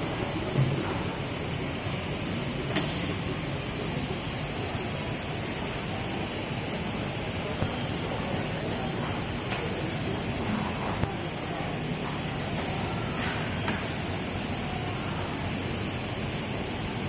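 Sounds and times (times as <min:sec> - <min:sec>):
soldering machine hiss and hum: 0:00.0 - 0:17.0.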